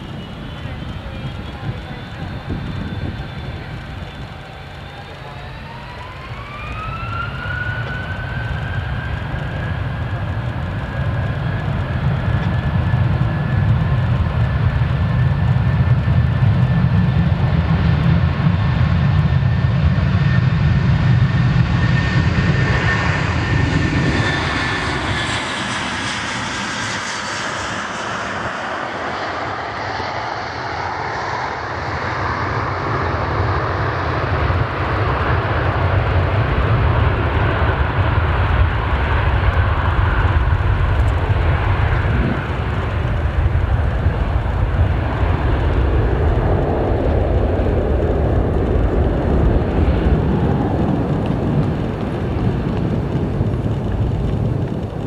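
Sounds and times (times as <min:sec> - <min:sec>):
jet engine high whine: 0:00.0 - 0:55.0
rushing jet engine noise: 0:00.0 - 0:55.0.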